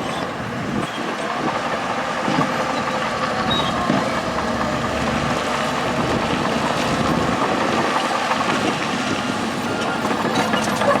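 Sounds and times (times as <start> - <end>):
diesel machinery running: 0.0 - 11.0.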